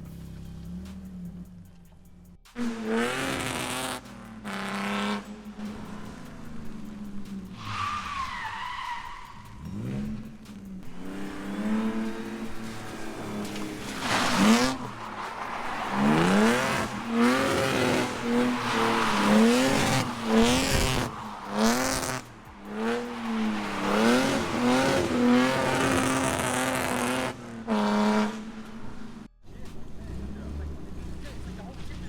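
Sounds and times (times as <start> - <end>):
car engine revving: 0.0 - 32.0
tire squeal: 2.6 - 32.0.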